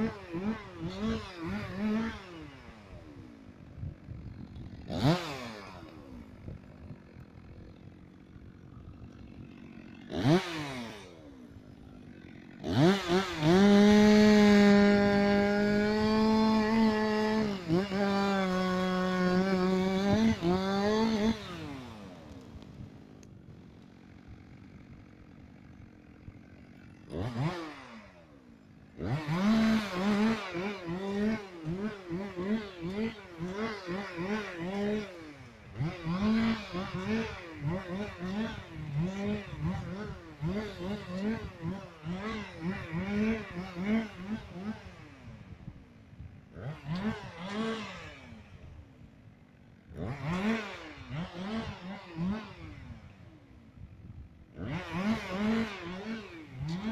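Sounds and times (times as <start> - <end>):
chainsaw engine revving and idling: 0.0 - 56.9.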